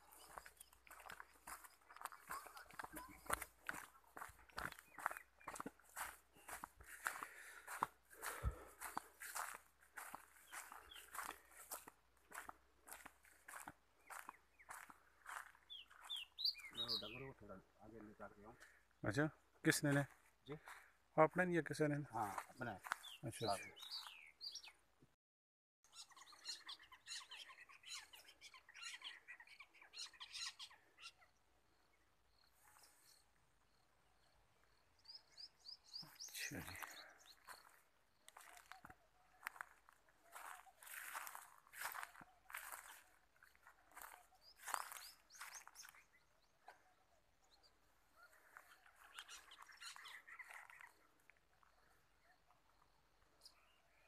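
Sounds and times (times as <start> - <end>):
birds chirping: 0.0 - 25.0, 25.8 - 54.0.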